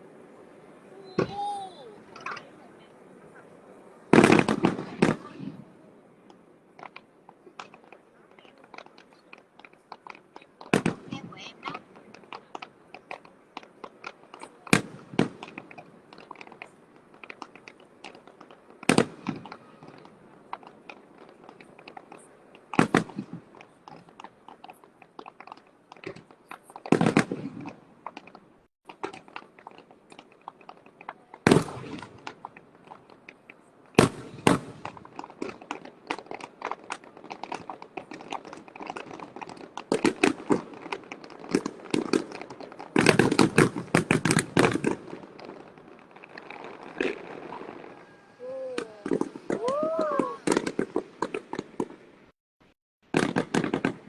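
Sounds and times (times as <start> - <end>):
fireworks bangs: 0.0 - 52.3, 53.0 - 54.0
fireworks crackling: 0.0 - 52.4, 53.0 - 54.0.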